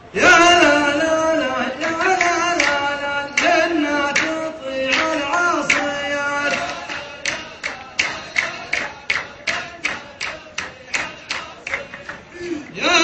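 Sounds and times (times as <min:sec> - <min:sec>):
man singing ornamented notes: 0:00.0 - 0:13.0
sharp percussive strikes: 0:01.8 - 0:12.3.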